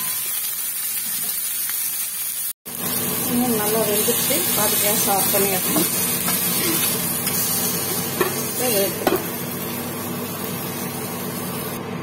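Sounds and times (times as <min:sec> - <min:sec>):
fish sizzling on griddle: 0:00.0 - 0:11.8.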